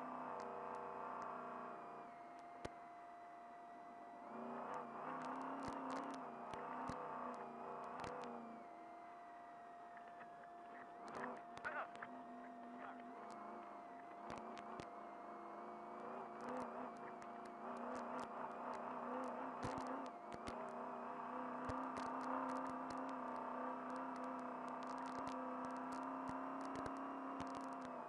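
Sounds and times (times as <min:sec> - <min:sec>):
thin steady whine: 0:00.0 - 0:28.0.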